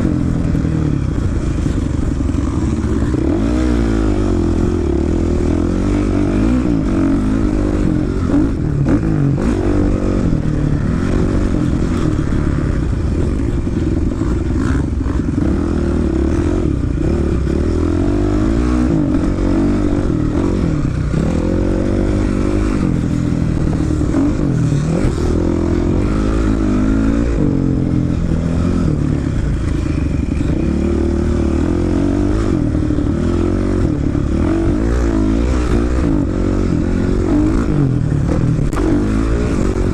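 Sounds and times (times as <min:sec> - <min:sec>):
dirt bike engine revving: 0:00.0 - 0:39.9
low rumble of wind: 0:00.0 - 0:39.9.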